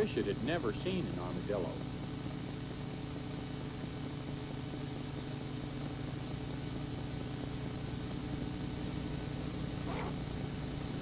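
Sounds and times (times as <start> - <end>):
high-pitched whine: 0.0 - 11.0
low hum and hiss: 0.0 - 11.0.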